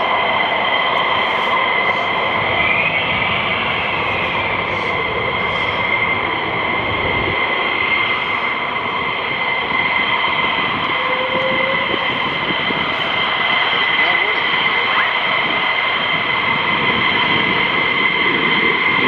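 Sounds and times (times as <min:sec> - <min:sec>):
jet engine rush: 0:00.0 - 0:19.0
jet engines whining: 0:00.0 - 0:19.0.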